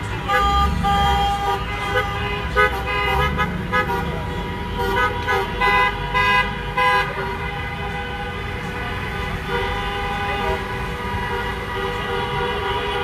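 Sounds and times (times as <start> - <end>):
low rumble of passing traffic: 0.0 - 13.0
vehicle horns honking: 0.0 - 13.0.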